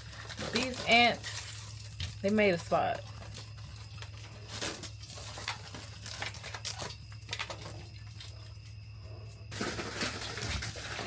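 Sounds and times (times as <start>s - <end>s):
crumbling debris crackling: 0.0s - 8.3s, 9.5s - 11.0s.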